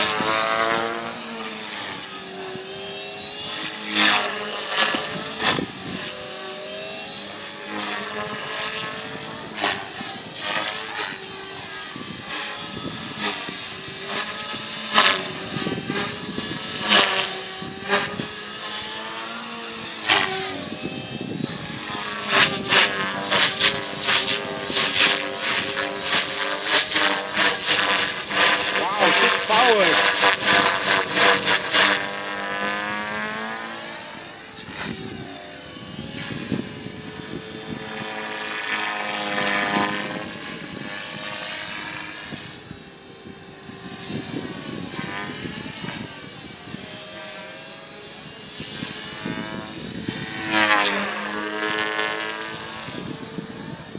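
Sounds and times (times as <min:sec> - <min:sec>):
rc helicopter motor and rotor whine: 0:00.0 - 0:53.9.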